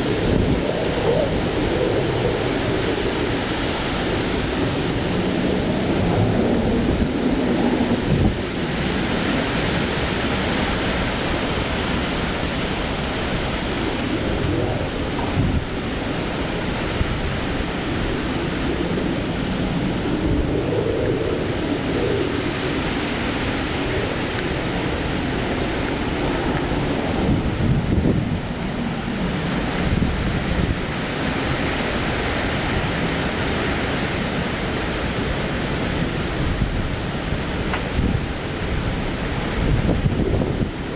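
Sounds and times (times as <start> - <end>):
heavy rain: 0.0 - 40.9
wind rushing: 0.0 - 40.9.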